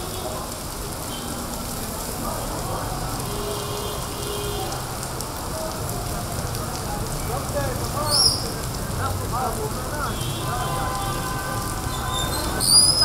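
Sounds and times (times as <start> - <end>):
heavy rain on pavement: 0.0 - 13.0.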